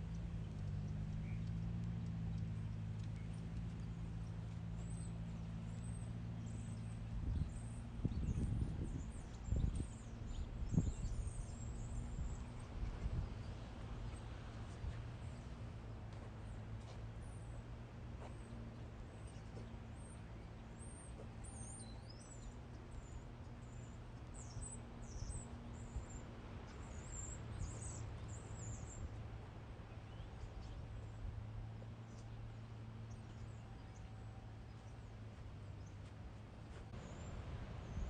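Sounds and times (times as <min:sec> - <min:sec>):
small birds chirping: 0:00.0 - 0:38.0
steady low hum: 0:00.0 - 0:38.0.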